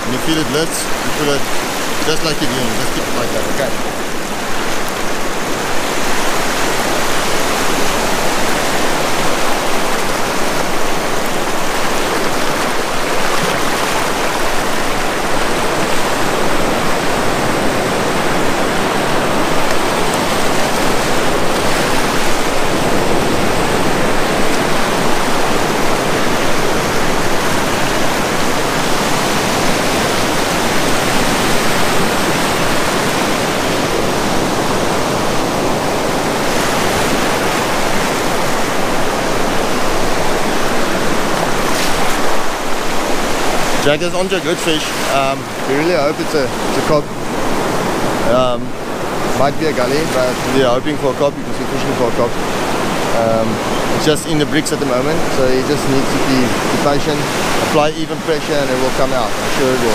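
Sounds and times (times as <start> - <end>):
surf breaking on rocks: 0.0 - 59.9.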